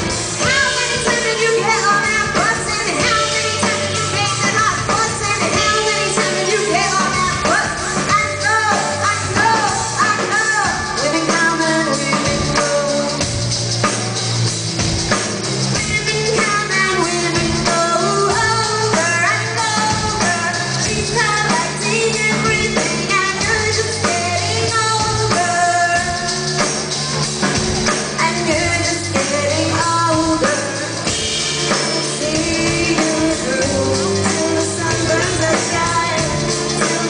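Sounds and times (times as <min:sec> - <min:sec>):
woman singing: 0:00.0 - 0:13.6, 0:15.7 - 0:37.0
drums: 0:00.0 - 0:37.0
electric bass: 0:00.0 - 0:37.0.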